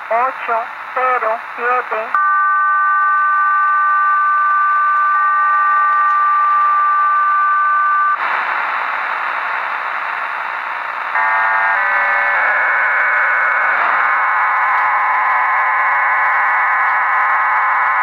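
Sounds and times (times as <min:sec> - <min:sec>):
shortwave static hiss: 0:00.0 - 0:18.0
two-tone radio signal: 0:00.0 - 0:18.0.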